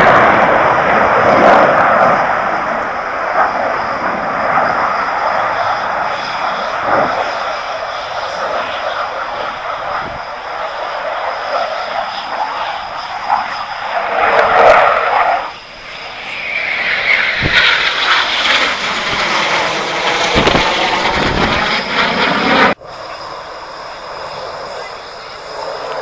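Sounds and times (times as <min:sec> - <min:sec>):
aircraft engine passing by: 0:00.0 - 0:26.0.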